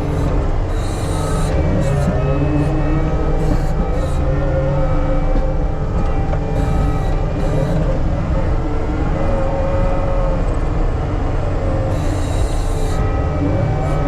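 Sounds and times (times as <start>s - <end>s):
diesel engine running under load: 0.0s - 14.0s
hydraulic whine: 0.0s - 14.0s.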